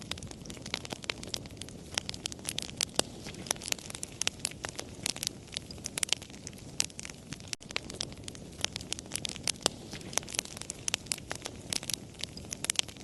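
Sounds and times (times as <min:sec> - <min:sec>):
low rumble of burning: 0:00.0 - 0:13.0
wood fire crackling and popping: 0:00.0 - 0:13.0.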